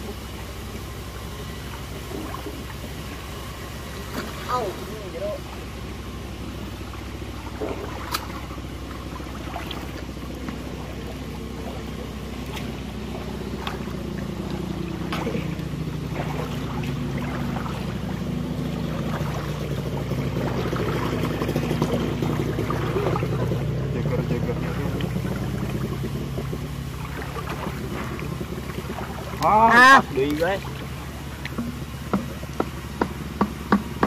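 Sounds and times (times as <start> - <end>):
feet wading through water: 0.0 - 34.0
steady low rumble: 0.0 - 34.0.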